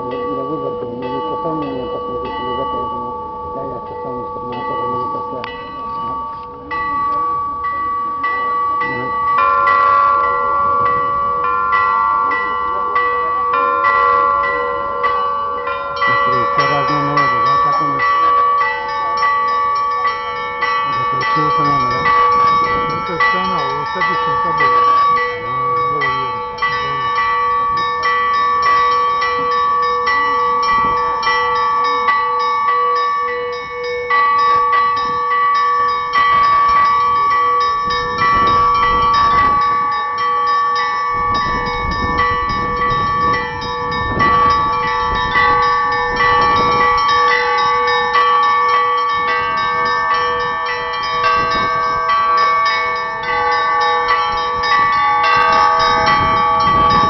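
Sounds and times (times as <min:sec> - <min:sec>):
church bells pealing: 0:00.0 - 0:57.0
large bell strikes: 0:00.0 - 0:57.0.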